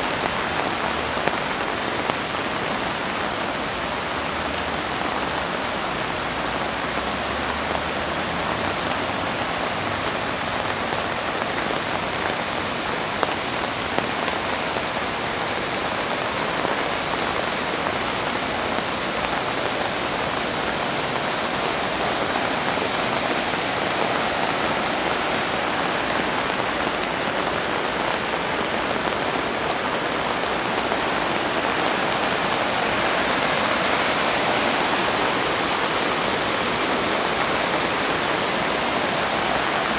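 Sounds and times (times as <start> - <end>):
floodwater rushing over street: 0.0 - 39.9
heavy rain falling: 0.0 - 39.9.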